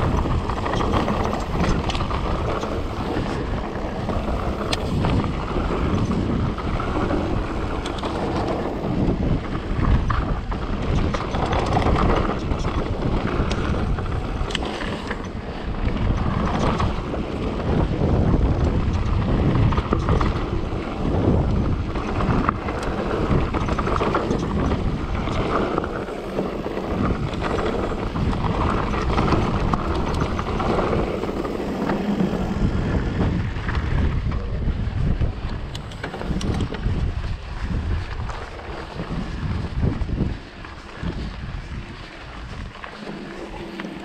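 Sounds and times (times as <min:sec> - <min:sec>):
bike clattering over rough ground: 0:00.0 - 0:44.0
bike tyre roar: 0:00.0 - 0:44.0
wind buffeting microphone: 0:00.0 - 0:44.0.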